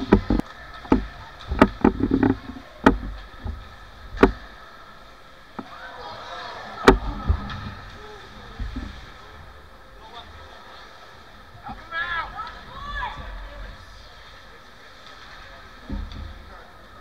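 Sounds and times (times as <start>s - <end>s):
voices calling out: 0.0s - 14.7s.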